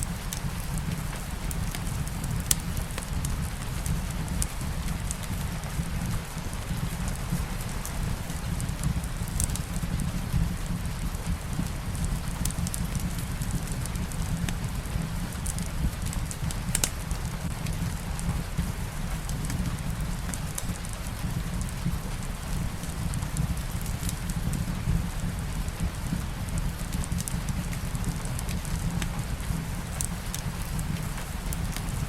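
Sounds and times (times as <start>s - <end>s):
soft rain: 0.0s - 32.0s
wood fire crackling: 0.0s - 32.0s.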